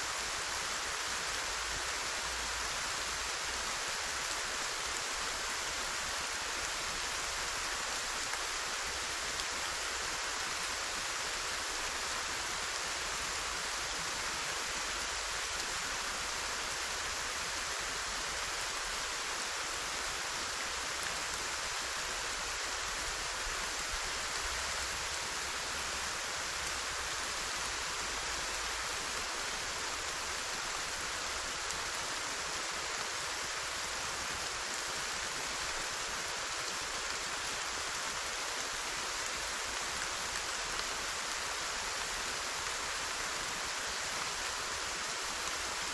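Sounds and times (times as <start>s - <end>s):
heavy rainfall: 0.0s - 45.9s.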